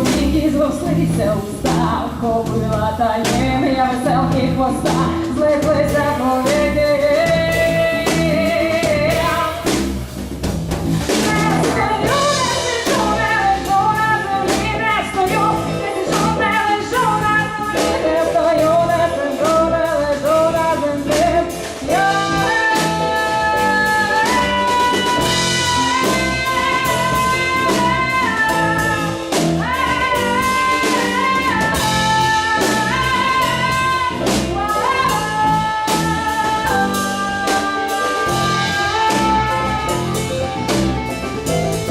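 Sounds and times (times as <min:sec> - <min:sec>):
live band music: 0:00.0 - 0:41.9.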